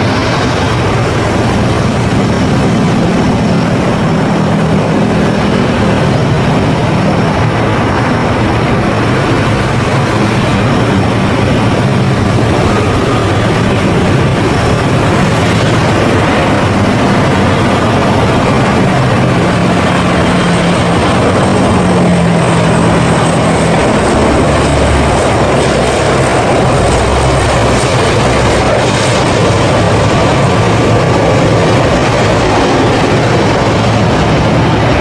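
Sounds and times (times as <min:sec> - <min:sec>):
low propeller hum: 0:00.0 - 0:35.0
turboprop engines running: 0:00.0 - 0:35.0.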